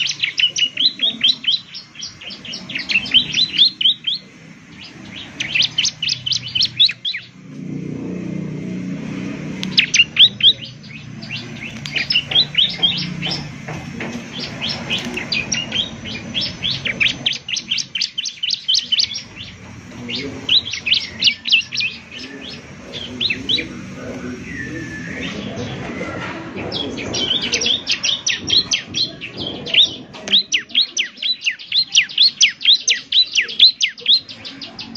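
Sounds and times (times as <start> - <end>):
bird singing sharp high notes: 0.0 - 13.6, 14.3 - 34.9.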